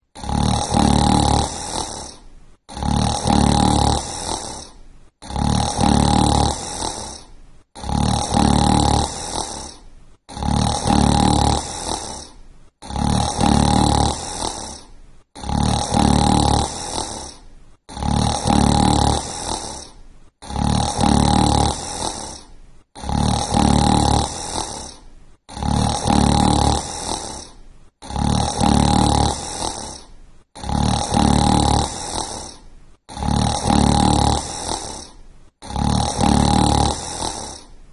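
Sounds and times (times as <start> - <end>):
person snoring: 0.1 - 37.8.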